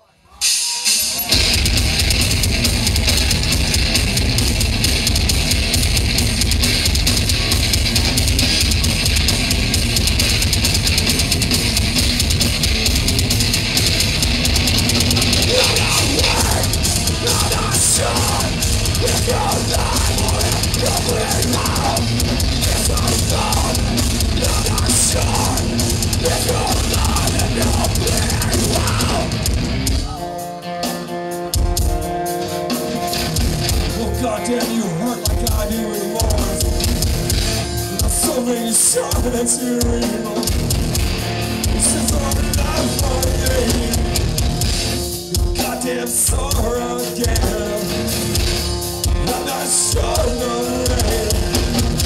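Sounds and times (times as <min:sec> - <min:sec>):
live rock band playing: 0:00.3 - 0:52.0.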